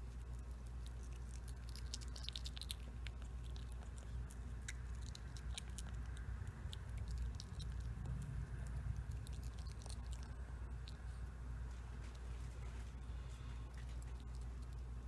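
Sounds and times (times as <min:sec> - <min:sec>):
animal chewing with mouth clicks: 0:00.0 - 0:15.0
steady low hum: 0:00.0 - 0:15.0.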